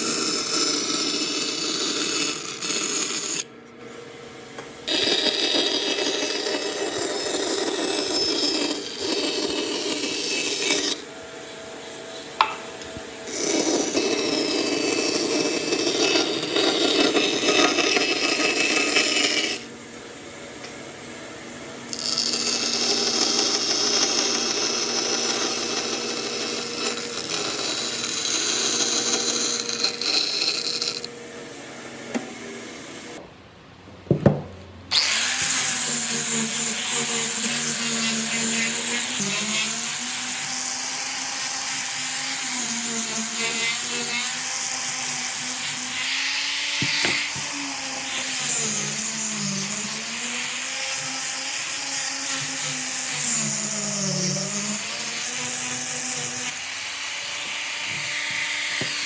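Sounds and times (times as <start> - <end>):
power tool cutting wood: 0.0 - 3.5, 4.8 - 11.2, 11.9 - 19.8, 21.8 - 31.2, 34.9 - 59.0
electric motor humming: 4.8 - 19.8, 21.2 - 33.2, 34.9 - 59.0.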